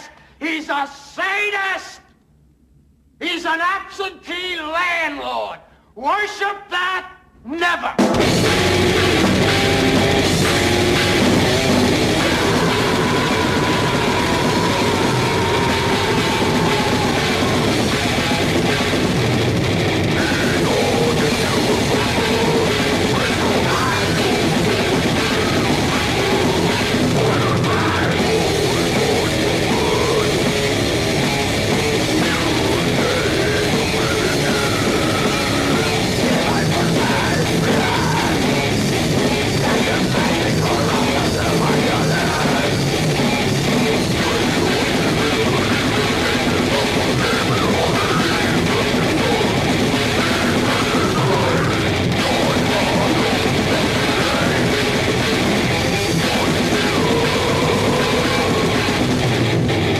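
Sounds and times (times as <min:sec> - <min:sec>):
death metal song: 0:08.0 - 0:59.9
distorted electric guitar: 0:08.0 - 0:59.9.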